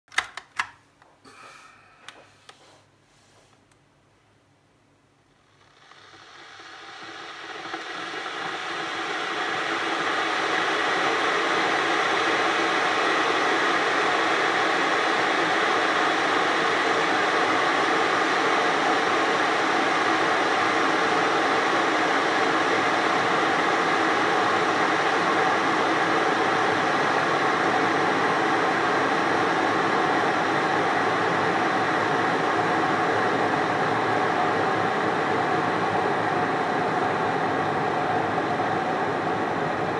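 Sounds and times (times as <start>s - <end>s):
water heating hiss: 5.4s - 39.9s.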